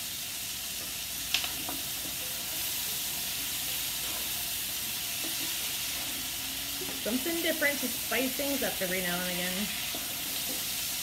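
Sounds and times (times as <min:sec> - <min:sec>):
vegetables sizzling in skillet: 0:00.0 - 0:11.0.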